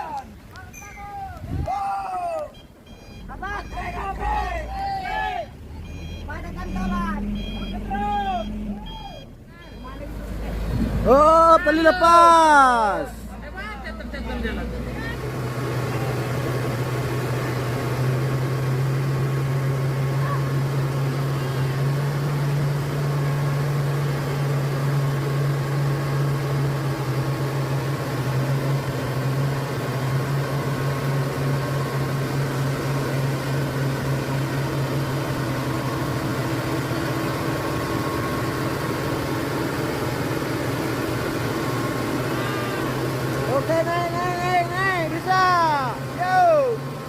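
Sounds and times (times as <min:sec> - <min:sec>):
diesel truck engine droning: 0:00.0 - 0:47.0.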